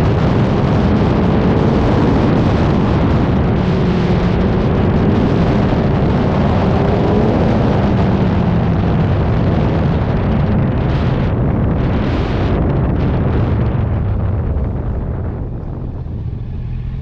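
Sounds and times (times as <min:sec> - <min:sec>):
faint engine: 0:00.0 - 0:17.0
wind buffeting camera: 0:00.0 - 0:17.0.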